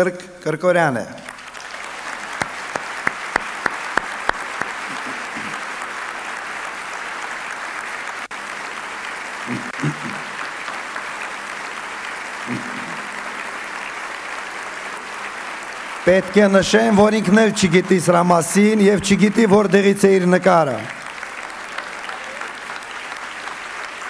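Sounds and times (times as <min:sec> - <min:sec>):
audience applauding: 0:01.2 - 0:24.0
sharp hand claps: 0:01.3 - 0:18.2, 0:20.8 - 0:24.0.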